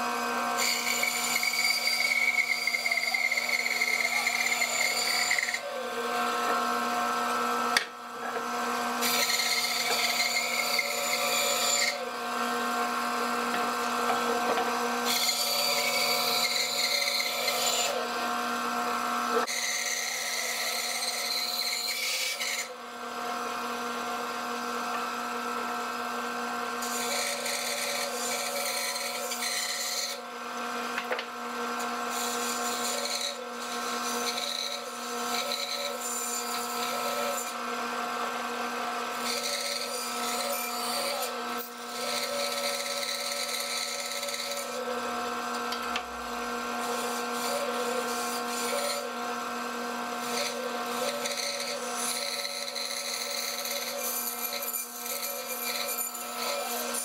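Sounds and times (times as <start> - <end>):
saw blade rasping through wood: 0.0 - 24.3, 25.2 - 31.0, 31.6 - 57.0
bandsaw motor hum: 0.0 - 57.0.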